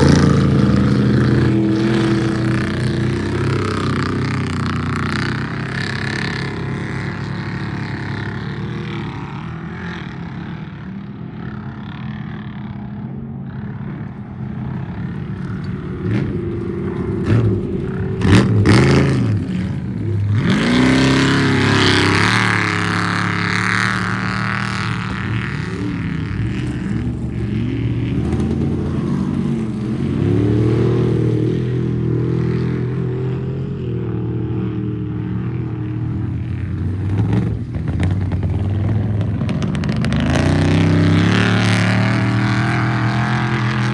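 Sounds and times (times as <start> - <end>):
truck engines revving: 0.0 - 43.9.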